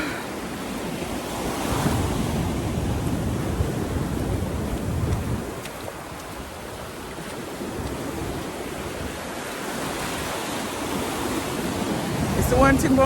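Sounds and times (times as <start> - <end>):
ocean surf washing on sand: 0.0 - 13.0
wind buffeting microphone: 0.0 - 13.0.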